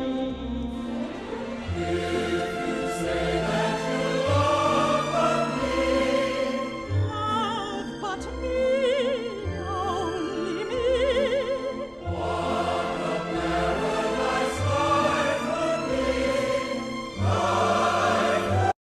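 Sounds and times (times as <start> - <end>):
choir-like ensemble: 0.0 - 18.8
operatic voice singing: 1.6 - 18.8.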